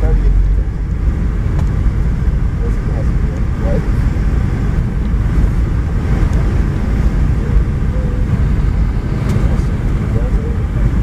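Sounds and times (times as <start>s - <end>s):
airflow noise: 0.0s - 11.0s
airliner cabin engine rumble: 0.0s - 11.0s.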